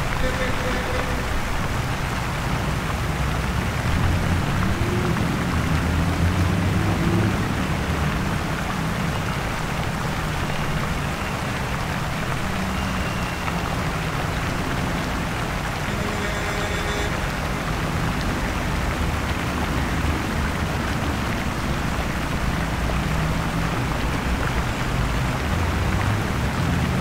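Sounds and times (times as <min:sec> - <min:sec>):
traffic hiss: 0:00.0 - 0:27.0.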